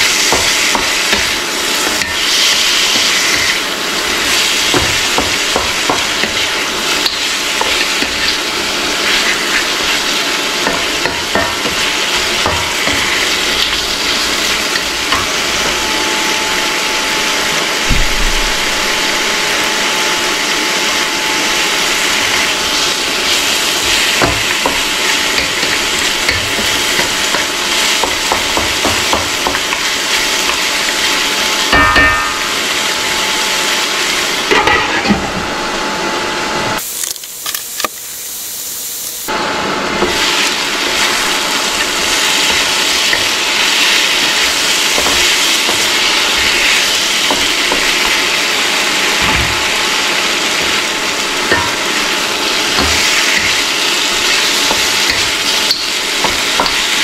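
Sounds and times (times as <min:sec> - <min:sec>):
meat sizzling in a wok: 0:00.0 - 0:36.1, 0:36.8 - 0:57.0.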